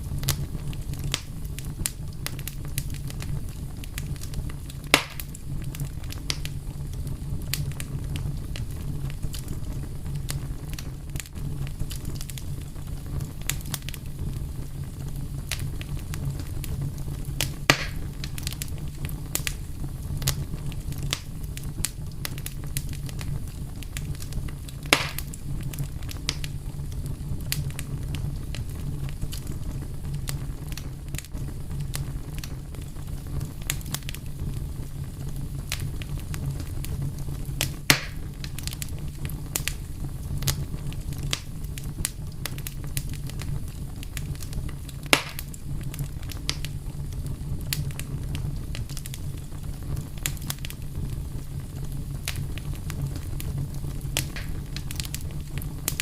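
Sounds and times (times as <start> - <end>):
fire crackling: 0.0 - 56.0
fire pops: 0.0 - 56.0.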